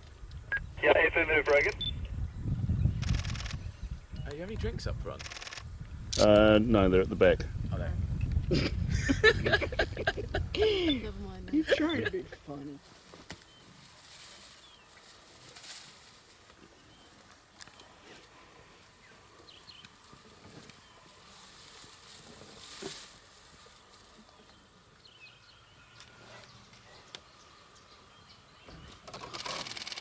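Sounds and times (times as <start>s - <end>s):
soft steady hiss: 0.0s - 2.3s, 3.0s - 28.9s.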